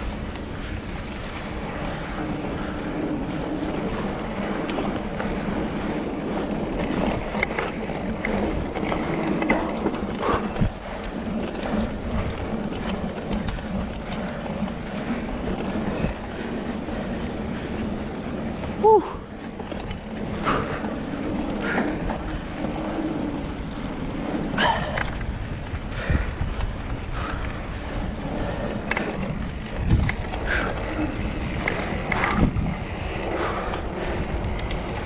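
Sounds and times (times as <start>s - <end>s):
bike rattling over bumps: 0.0s - 35.0s
bike tyres rolling on dirt: 0.0s - 35.0s
wind on microphone: 0.0s - 35.0s.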